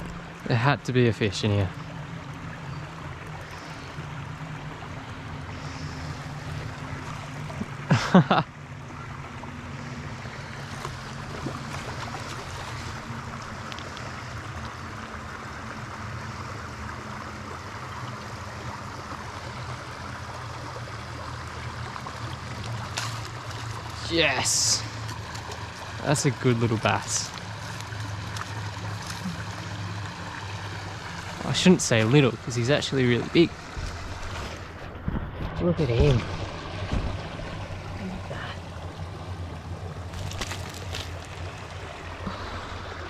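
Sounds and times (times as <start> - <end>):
creek water running: 0.0 - 43.0.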